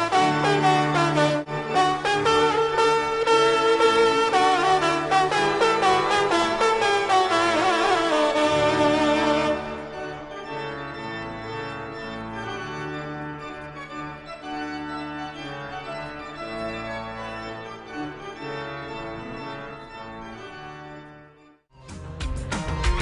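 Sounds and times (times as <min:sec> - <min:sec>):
organ-like keyboard chords: 0:00.0 - 0:21.6.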